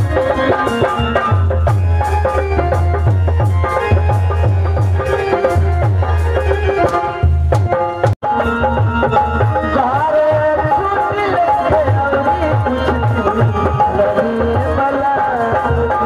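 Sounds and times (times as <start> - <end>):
electronic keyboard melody: 0.0 - 16.0
hand-drum strokes: 0.0 - 16.0
heavy drum beat: 0.0 - 16.0.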